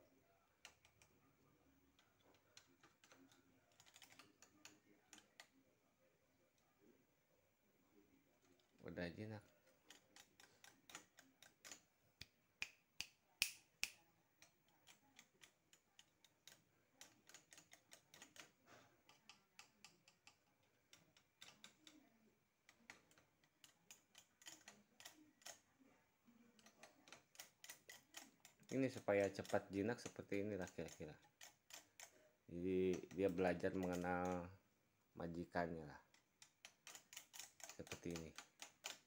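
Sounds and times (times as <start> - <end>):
fingers tapping bamboo cage bars: 2.0 - 5.6, 8.5 - 25.6, 26.6 - 34.6, 35.6 - 39.0.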